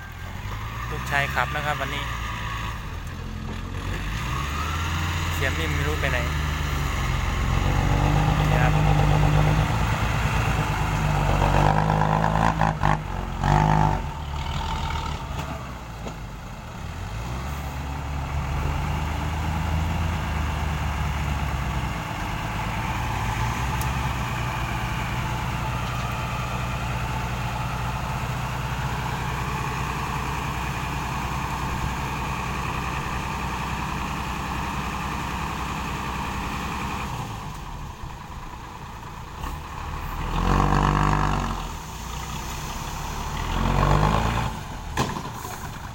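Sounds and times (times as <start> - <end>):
truck engine running: 0.0 - 13.4, 14.0 - 45.9.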